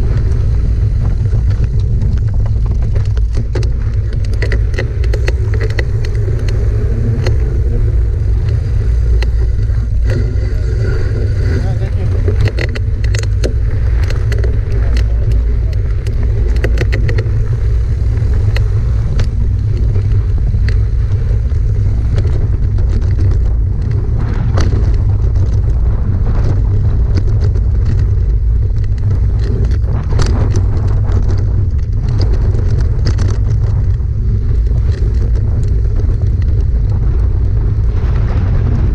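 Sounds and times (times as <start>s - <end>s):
bike chain and frame rattling: 0.0s - 37.9s
tyres rolling over dirt: 0.0s - 38.9s
wind buffeting microphone: 0.0s - 38.9s.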